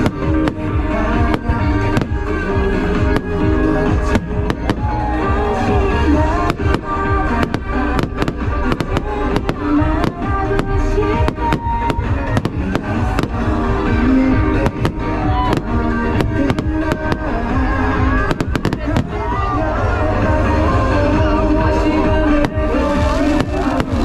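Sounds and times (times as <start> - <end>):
fireworks bangs: 0.0 - 24.0
pop music with singing: 0.0 - 24.0.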